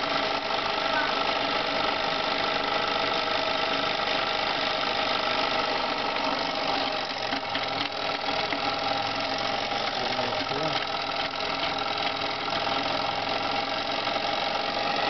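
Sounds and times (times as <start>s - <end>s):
model steam engine running: 0.0s - 15.0s.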